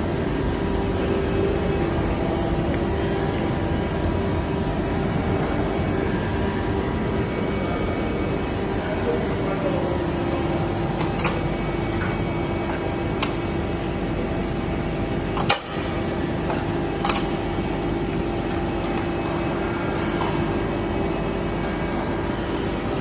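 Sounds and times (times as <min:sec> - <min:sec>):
grinding machine humming: 0:00.0 - 0:23.0.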